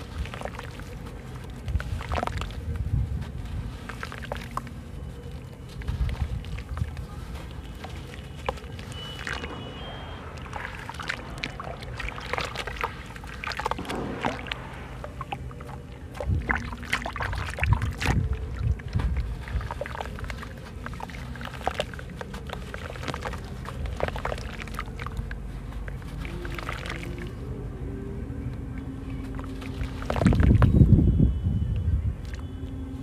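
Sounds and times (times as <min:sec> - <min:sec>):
block crunching and crackling: 0:00.0 - 0:27.4
water dripping and sloshing: 0:00.0 - 0:27.4, 0:28.8 - 0:30.8
water splashes: 0:00.0 - 0:27.4, 0:29.2 - 0:30.8.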